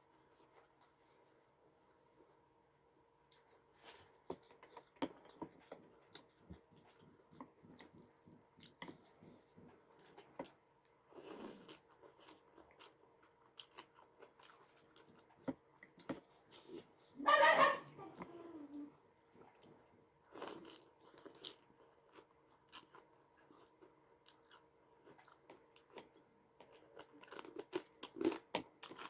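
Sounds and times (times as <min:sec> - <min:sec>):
crunchy chewing: 0:03.3 - 0:18.3, 0:19.4 - 0:29.0.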